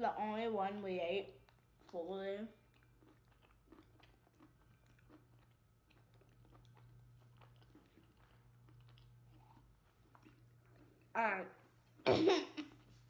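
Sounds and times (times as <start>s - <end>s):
low steady hum: 0.0s - 13.0s
faint chewing: 1.3s - 13.0s.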